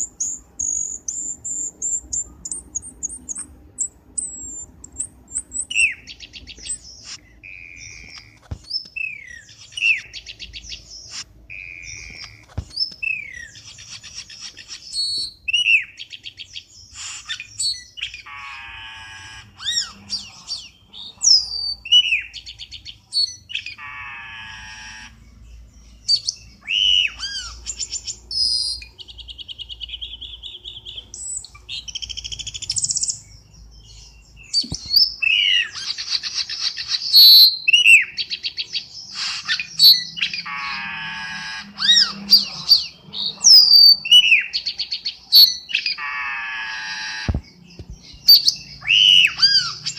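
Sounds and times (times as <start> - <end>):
bird chirps and trills: 0.0 - 49.9.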